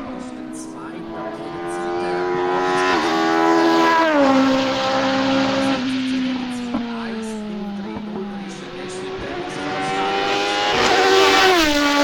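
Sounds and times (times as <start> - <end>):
race car engine passing: 0.0 - 12.0.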